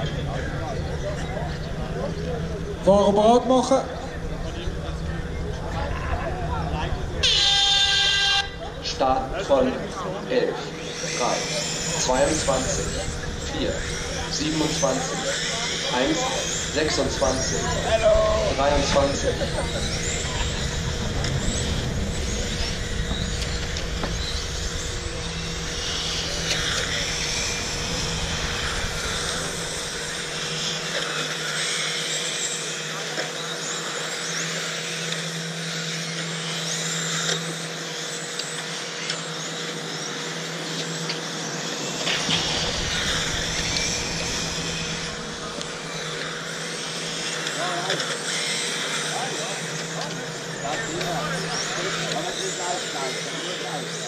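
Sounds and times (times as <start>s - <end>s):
electric toy car motors whining: 0.0s - 54.0s.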